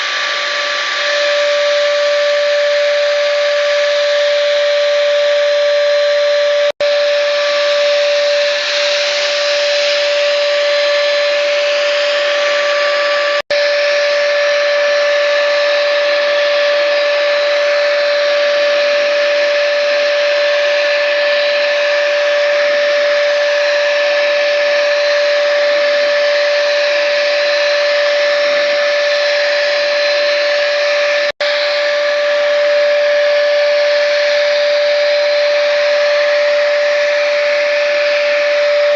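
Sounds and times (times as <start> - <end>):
electric spray gun whine: 0.0 - 38.9.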